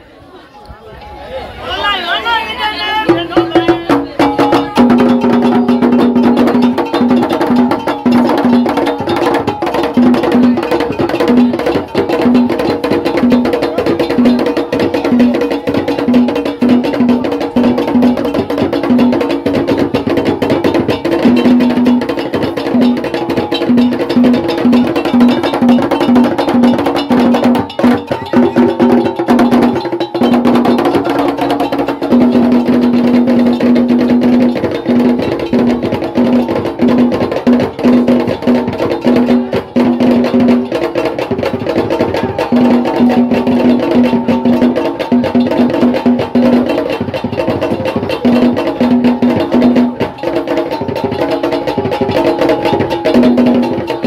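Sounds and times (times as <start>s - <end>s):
fast ceremonial drumming: 1.8s - 54.0s.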